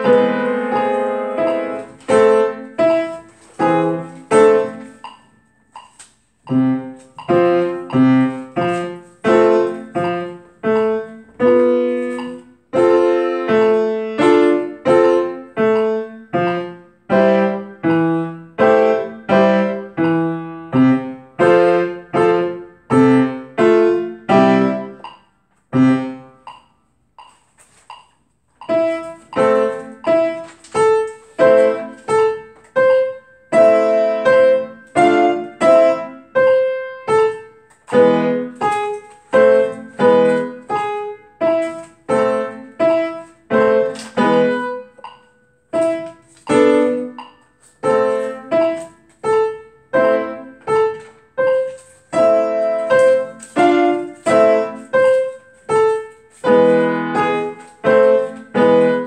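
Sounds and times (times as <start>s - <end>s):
acoustic piano playing: 0.0s - 59.0s.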